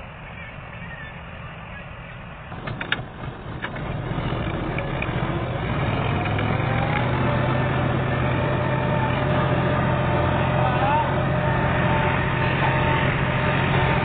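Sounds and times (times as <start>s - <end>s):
combine harvester engine running: 0.0s - 14.0s.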